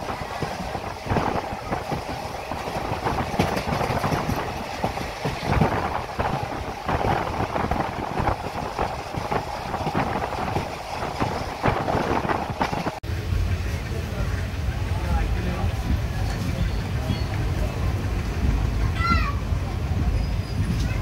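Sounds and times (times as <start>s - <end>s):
wheels clattering over track: 0.0s - 19.3s
train rumble: 0.0s - 21.0s.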